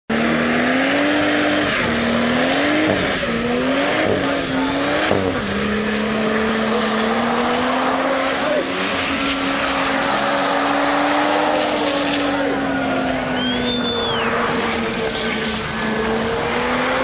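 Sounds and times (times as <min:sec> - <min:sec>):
car engine revving high: 0:00.1 - 0:17.0
tyres screeching on tarmac: 0:00.3 - 0:17.0.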